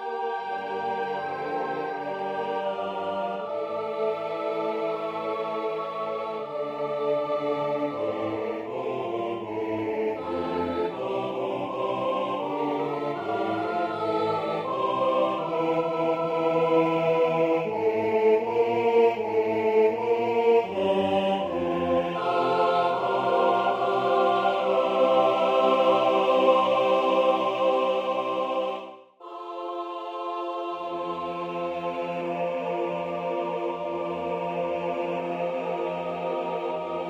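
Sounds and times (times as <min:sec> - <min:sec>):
choir singing unaccompanied: 0:00.0 - 0:37.0.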